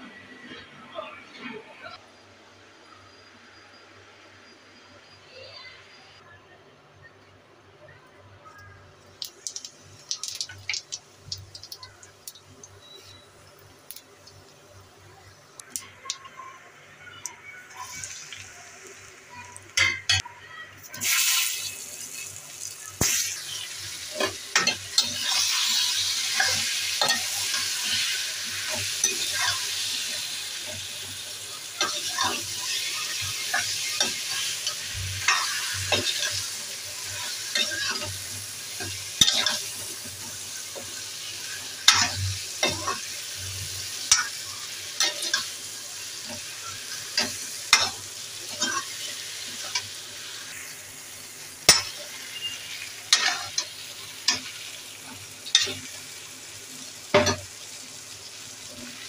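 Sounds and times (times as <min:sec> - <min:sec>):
food sizzling in oil: 0:08.9 - 0:59.0.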